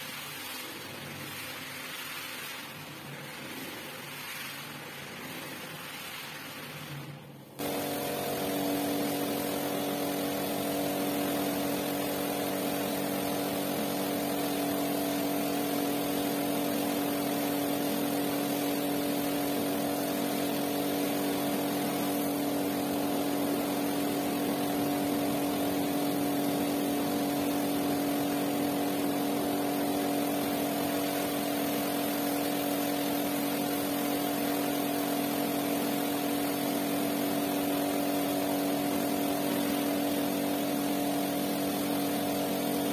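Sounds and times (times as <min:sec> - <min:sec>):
pressure washer motor hum: 0:00.0 - 0:42.9
water jet hissing: 0:00.0 - 0:42.9.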